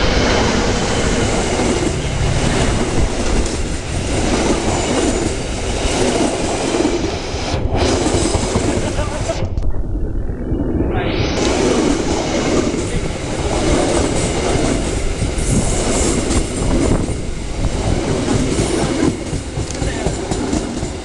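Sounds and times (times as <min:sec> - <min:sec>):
train wheels rumbling on rails: 0:00.0 - 0:09.7, 0:11.2 - 0:21.0.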